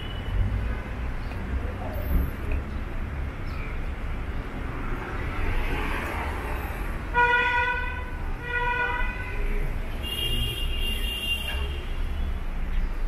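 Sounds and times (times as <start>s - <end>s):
low rumble of city street: 0.0s - 13.0s.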